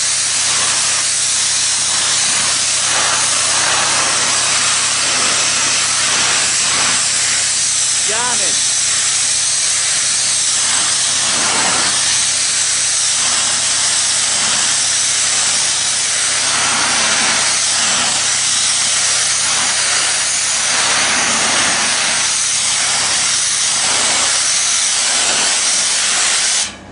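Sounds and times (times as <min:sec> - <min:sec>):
high-pressure water jet hissing: 0:00.0 - 0:26.8.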